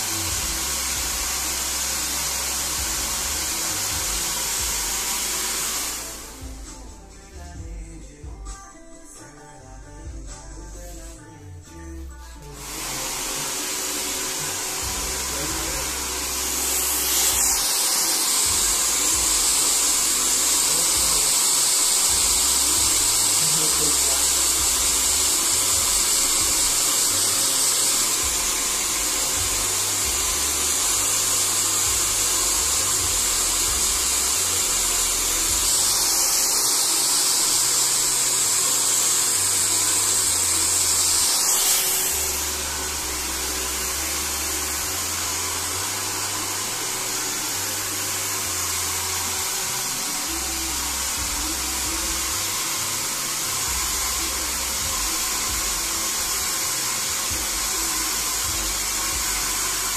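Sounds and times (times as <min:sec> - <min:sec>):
hair dryer blowing: 0:00.0 - 0:06.9, 0:12.4 - 0:59.9.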